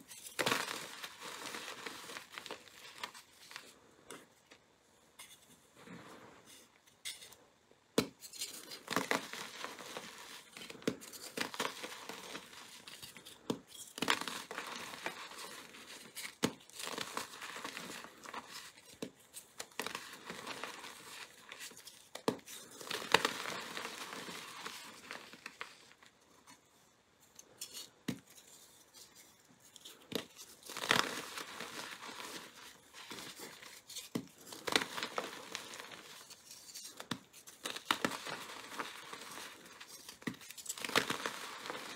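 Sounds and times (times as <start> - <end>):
chalk crunching and cracking: 0.0 - 3.9, 8.0 - 41.9.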